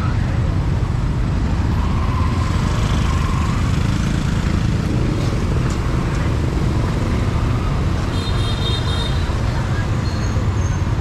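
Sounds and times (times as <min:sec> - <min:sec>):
street traffic engines rumbling: 0:00.0 - 0:11.0.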